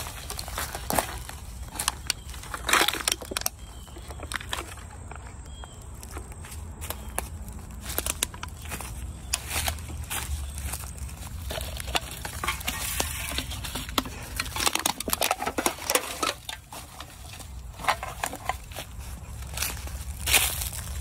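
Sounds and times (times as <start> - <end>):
aluminum can crinkling: 0.0 - 21.0
footsteps crunching over dry leaves: 0.0 - 21.0.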